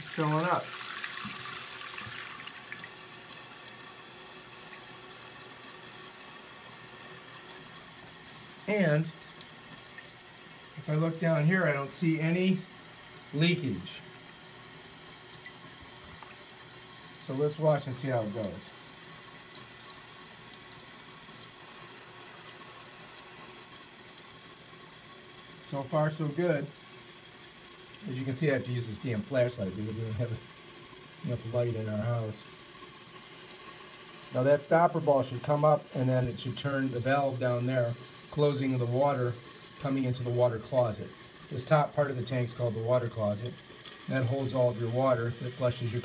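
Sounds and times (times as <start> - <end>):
water running into toilet tank: 0.0 - 46.0.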